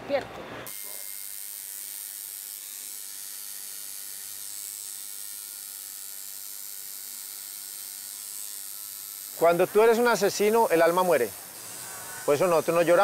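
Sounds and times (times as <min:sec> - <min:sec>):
tattoo machine hissing: 0:00.6 - 0:13.0.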